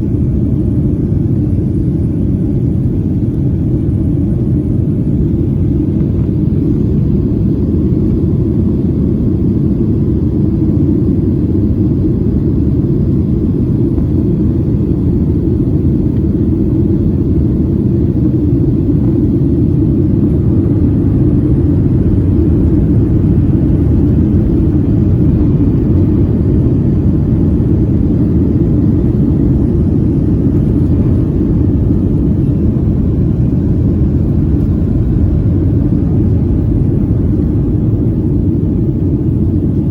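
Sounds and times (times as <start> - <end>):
jet engine rumble: 0.0 - 39.9.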